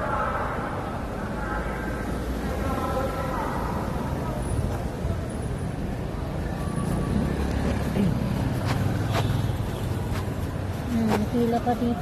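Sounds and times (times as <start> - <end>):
cars passing: 0.0 - 12.0
traffic rumble: 0.0 - 12.0.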